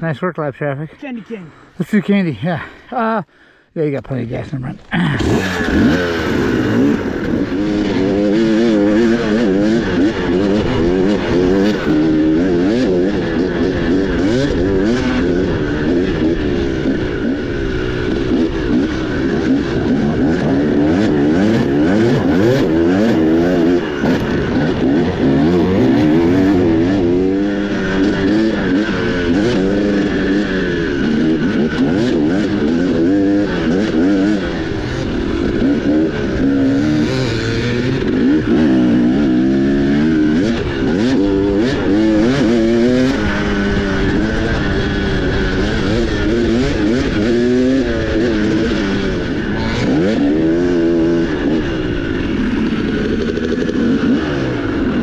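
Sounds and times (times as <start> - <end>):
dirt bike engine revving: 4.8 - 55.0.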